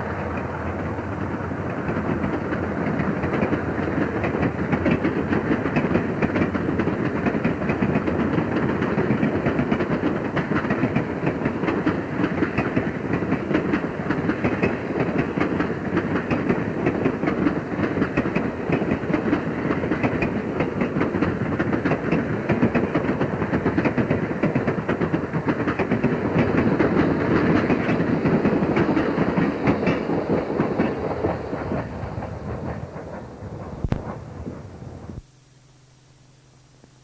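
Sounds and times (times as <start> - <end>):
train rumble: 0.0 - 35.2
train wheels clicking over rail joints: 0.0 - 35.2.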